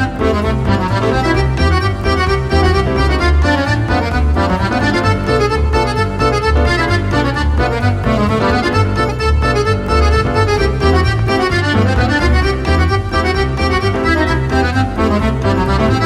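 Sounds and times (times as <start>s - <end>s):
accordion-like keyboard melody: 0.0s - 16.0s
steady bass beat: 0.0s - 16.0s.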